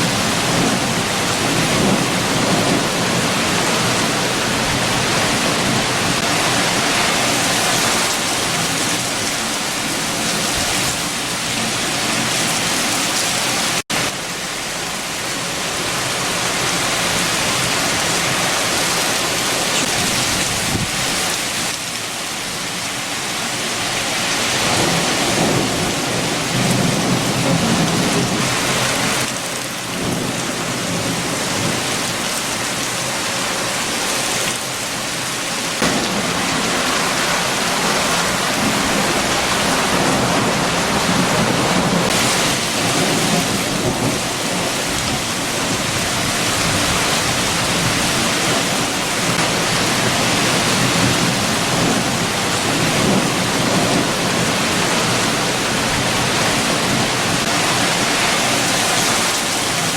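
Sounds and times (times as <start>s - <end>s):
strong wind rumble: 0.0s - 14.1s, 15.6s - 21.8s, 23.6s - 59.9s
heavy rain falling: 0.0s - 59.9s.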